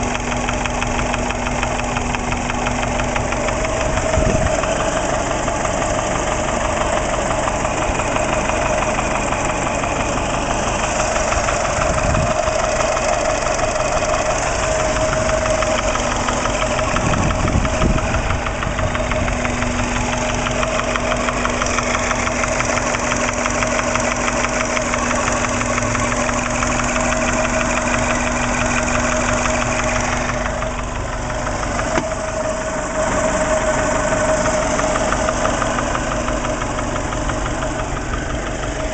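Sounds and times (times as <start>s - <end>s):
car engine idling: 0.0s - 38.9s
rapid engine knocking tick: 0.0s - 38.9s.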